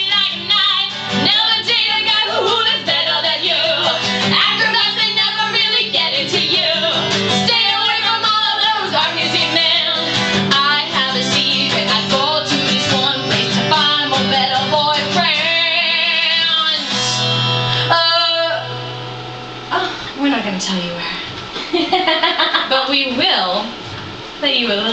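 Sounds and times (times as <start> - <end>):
band backing: 0.0 - 20.2
guitar: 0.0 - 24.9.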